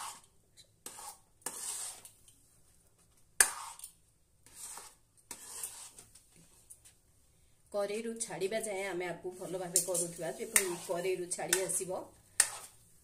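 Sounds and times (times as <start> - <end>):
spoon scraping and stirring in pan: 0.0 - 6.9, 9.3 - 13.0.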